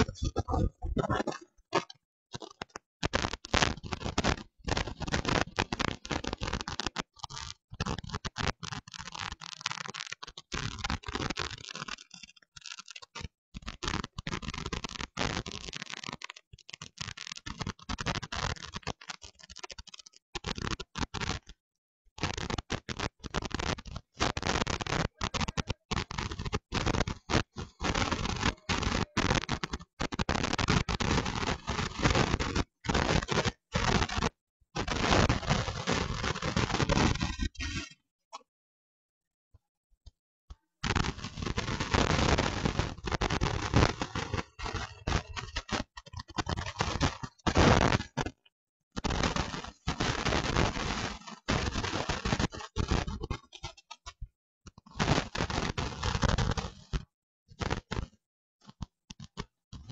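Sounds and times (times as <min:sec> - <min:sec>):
harsh crackling static: 0:00.0 - 0:21.6, 0:22.2 - 0:38.5, 0:40.8 - 0:59.9.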